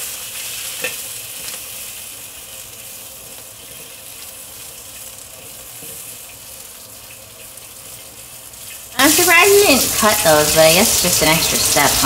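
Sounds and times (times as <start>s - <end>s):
beans sizzling in hot oil: 0.0s - 12.0s.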